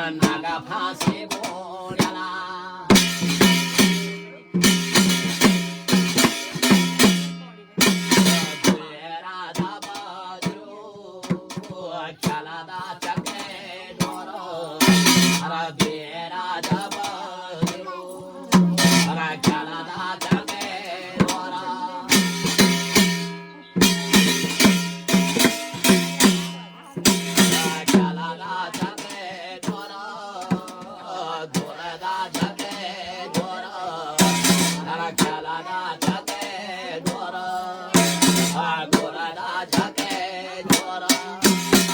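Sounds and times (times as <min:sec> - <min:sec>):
man singing: 0:00.0 - 0:06.8, 0:07.4 - 0:41.9
rhythmic drumming: 0:00.0 - 0:41.9.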